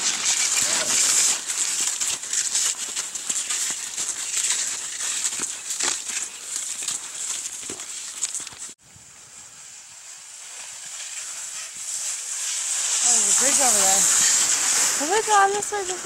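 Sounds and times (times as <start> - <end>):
skis crunching over snow: 0.0 - 16.0.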